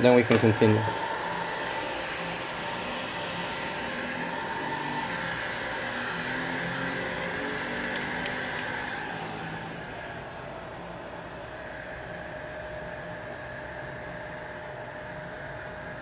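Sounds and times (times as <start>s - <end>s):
hot-air blower running: 0.0s - 16.0s.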